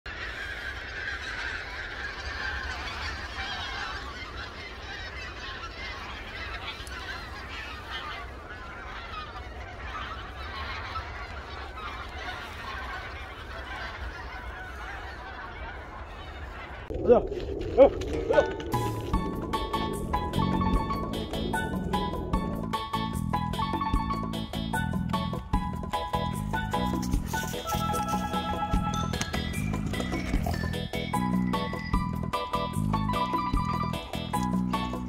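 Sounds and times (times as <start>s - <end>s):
geese honking in flight: 0.1s - 35.0s.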